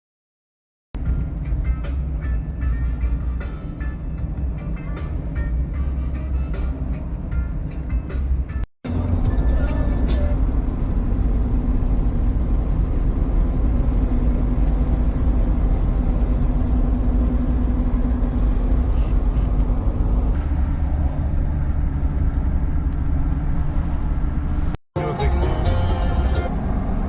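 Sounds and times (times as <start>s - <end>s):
car interior road and engine noise: 1.0s - 27.0s.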